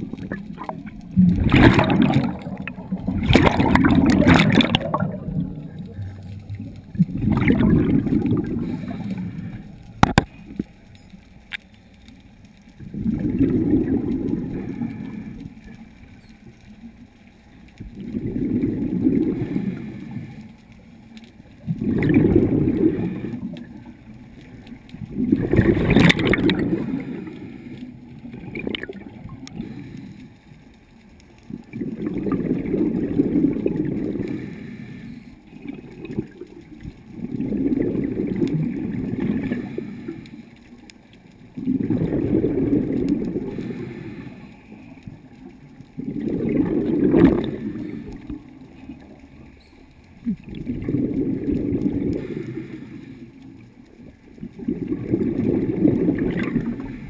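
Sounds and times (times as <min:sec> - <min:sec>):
underwater exhaled bubbles gurgling: 0:00.0 - 0:57.0.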